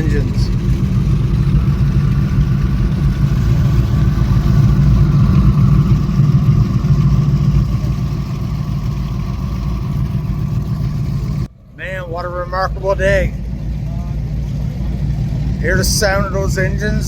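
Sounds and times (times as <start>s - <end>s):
powerboat engines idling: 0.0s - 17.0s.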